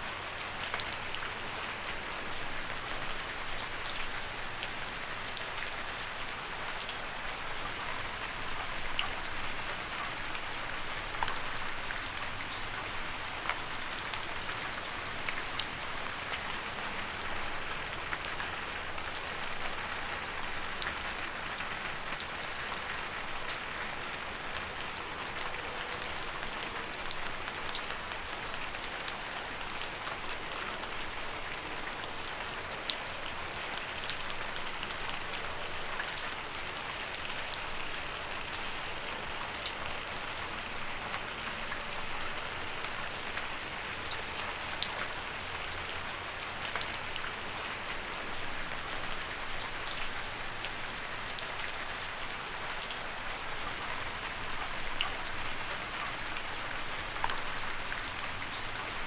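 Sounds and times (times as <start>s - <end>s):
raindrops pattering on surface: 0.0s - 59.0s
steady rain hiss: 0.0s - 59.0s.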